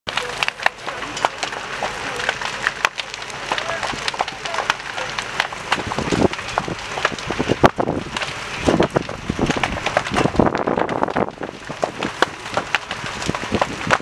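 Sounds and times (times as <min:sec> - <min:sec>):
fire crackling and popping: 0:00.1 - 0:14.0.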